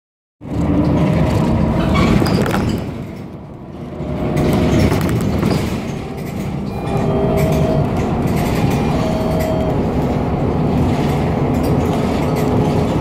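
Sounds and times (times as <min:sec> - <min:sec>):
bus engine and road rumble: 0:00.4 - 0:13.0
rattling and clicking: 0:00.5 - 0:13.0.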